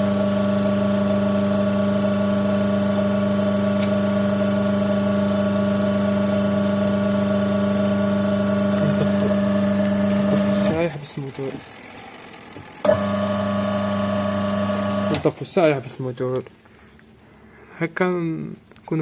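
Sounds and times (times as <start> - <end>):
washing machine motor humming: 0.0 - 15.4.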